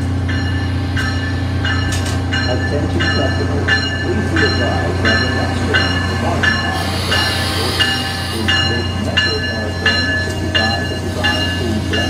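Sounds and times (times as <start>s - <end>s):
locomotive bell ringing: 0.0s - 12.0s.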